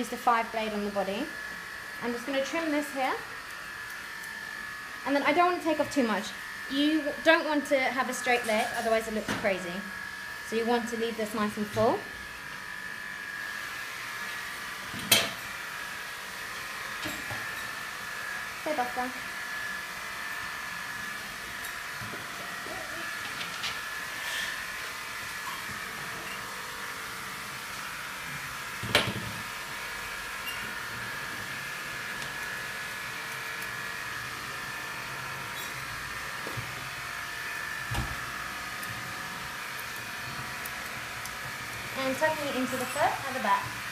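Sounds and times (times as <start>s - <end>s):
machine electrical hum: 0.0s - 43.9s.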